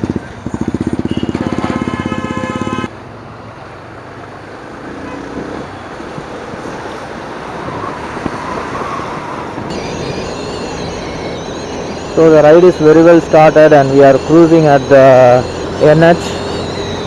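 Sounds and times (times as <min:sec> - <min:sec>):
wind and road rush: 0:00.0 - 0:17.0.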